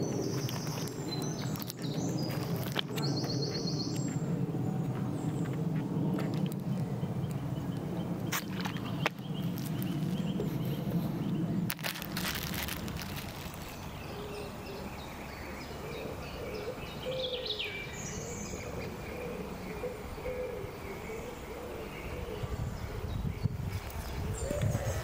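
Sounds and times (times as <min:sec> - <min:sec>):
birds chirping and calling: 0:00.0 - 0:25.0
low background noise: 0:00.0 - 0:25.0.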